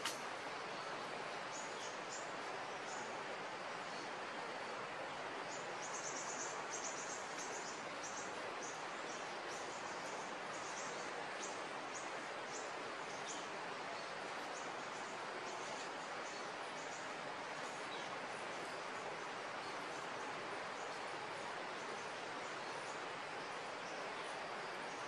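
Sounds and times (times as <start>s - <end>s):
steady outdoor hiss: 0.0s - 25.0s.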